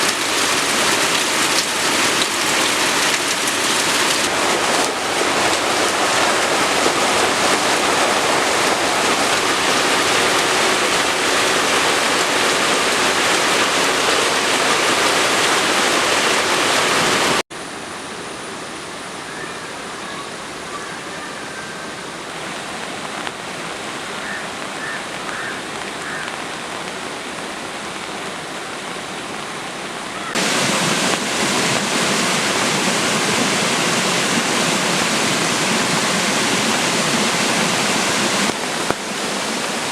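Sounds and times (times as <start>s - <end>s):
heavy rain hissing: 0.0s - 39.9s
soft rain: 0.0s - 39.9s.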